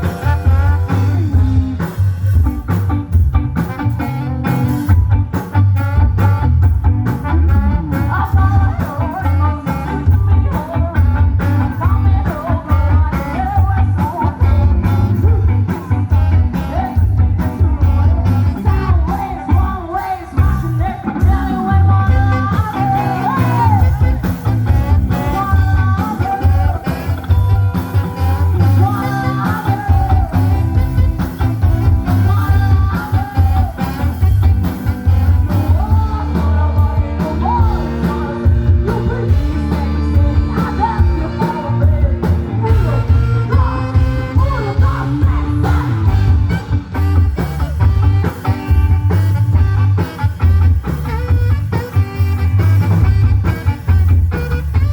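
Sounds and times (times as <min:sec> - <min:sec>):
music with beat and singing: 0:00.0 - 0:54.9.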